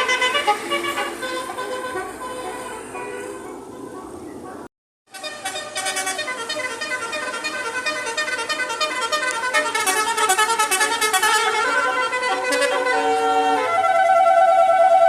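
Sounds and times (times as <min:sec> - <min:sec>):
musical vehicle horn melody: 0:00.0 - 0:04.0, 0:05.1 - 0:15.0.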